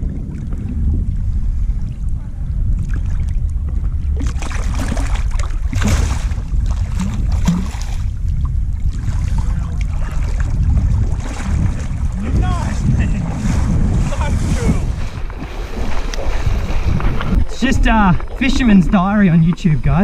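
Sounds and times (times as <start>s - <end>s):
water splashing: 0.0s - 20.0s
wind on microphone: 0.0s - 20.0s.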